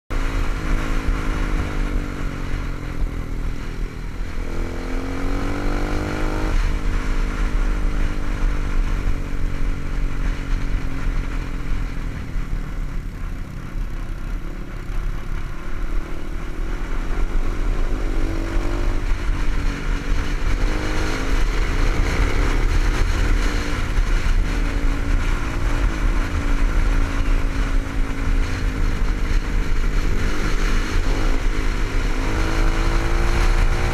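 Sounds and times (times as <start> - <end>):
motorcycle engine accelerating: 0.1 - 33.9
wind rumble on microphone: 0.1 - 33.9.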